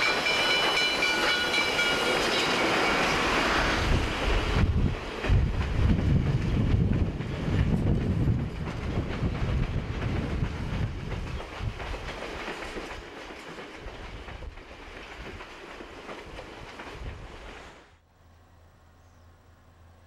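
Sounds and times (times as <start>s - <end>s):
steam train rolling on rails: 0.0s - 18.6s.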